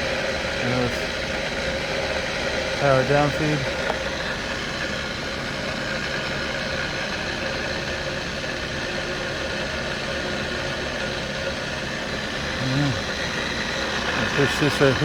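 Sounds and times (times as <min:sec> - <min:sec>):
drill press humming: 0:00.0 - 0:15.0.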